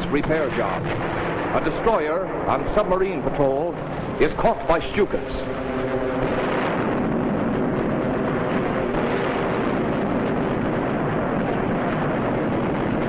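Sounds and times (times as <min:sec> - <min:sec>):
aircraft engines roaring: 0:00.0 - 0:13.0
explosions: 0:00.0 - 0:13.0.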